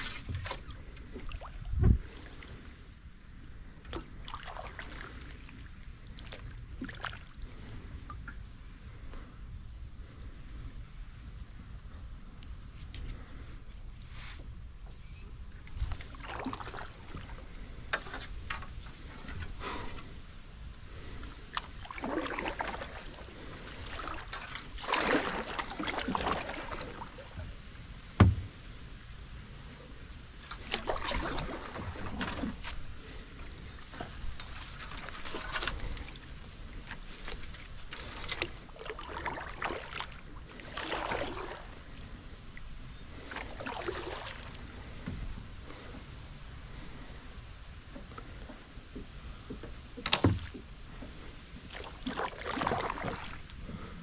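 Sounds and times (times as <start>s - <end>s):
paddle strokes splashing water: 0.0s - 8.4s, 15.7s - 54.0s.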